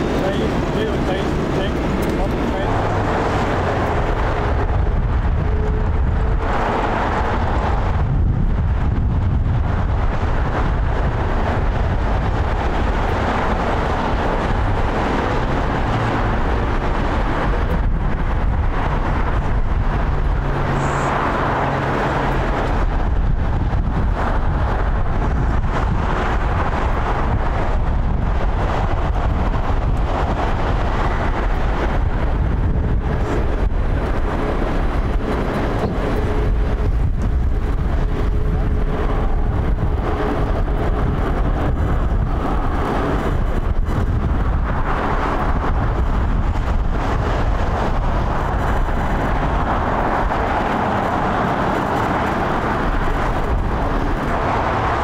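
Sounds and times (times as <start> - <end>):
outdoor rumble: 0.0 - 55.0
wind buffeting microphone: 0.0 - 55.0.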